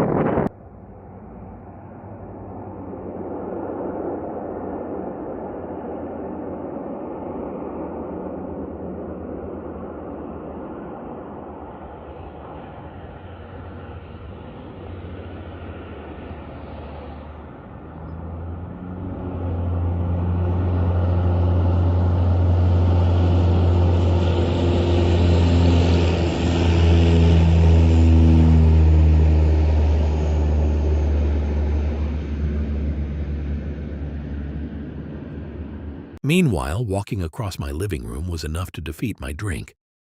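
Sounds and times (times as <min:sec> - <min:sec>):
aircraft engine drone: 0:00.0 - 0:39.7.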